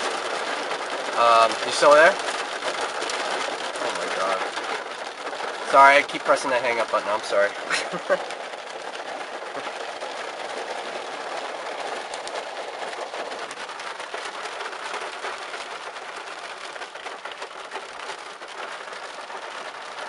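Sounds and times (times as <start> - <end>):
hail pattering: 0.0 - 20.0.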